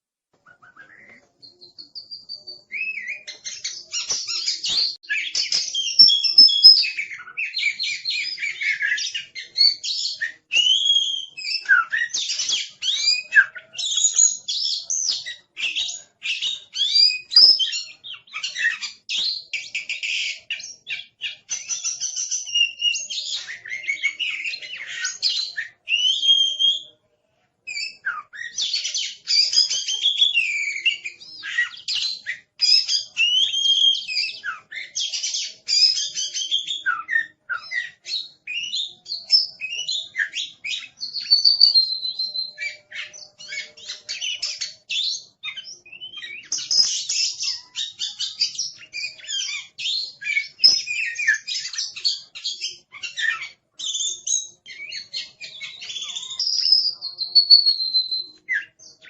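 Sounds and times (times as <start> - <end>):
magpie-robin song: 0.4 - 59.0.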